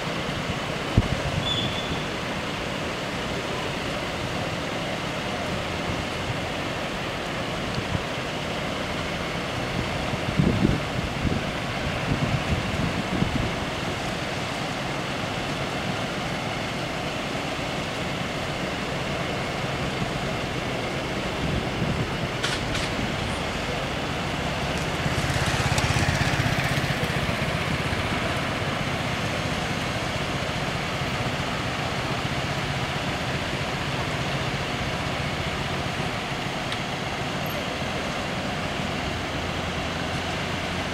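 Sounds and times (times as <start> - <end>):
cars and scooters idling: 0.0 - 40.9.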